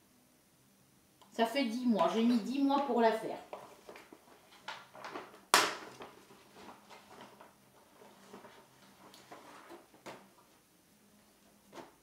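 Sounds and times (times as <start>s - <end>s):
plastic sleeve and cloth rustling: 2.0s - 12.0s.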